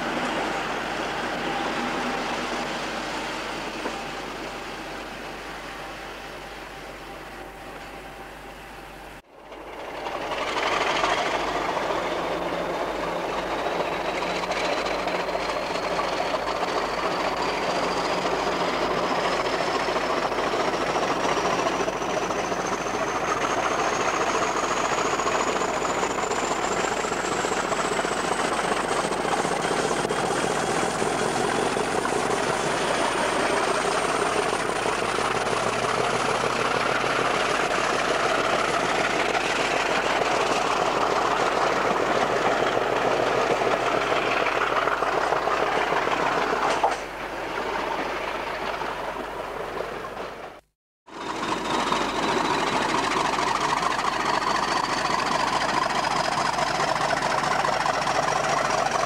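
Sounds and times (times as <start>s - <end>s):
locomotive engine and rail noise: 0.0s - 59.0s.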